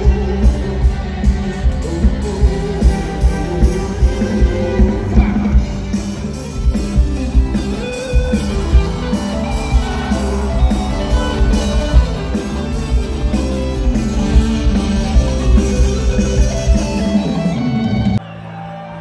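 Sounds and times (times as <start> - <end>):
electric guitar: 0.0 - 19.0
live band playing: 0.0 - 19.0.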